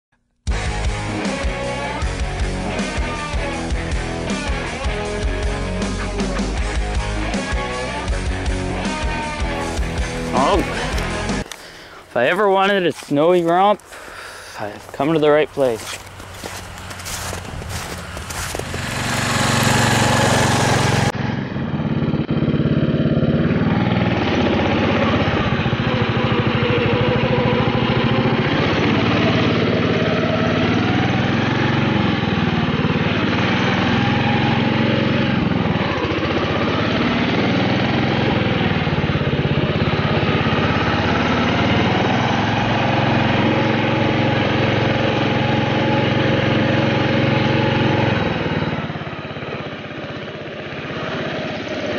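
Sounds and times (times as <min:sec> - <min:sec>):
lawn tractor engine running: 0:01.2 - 0:51.9.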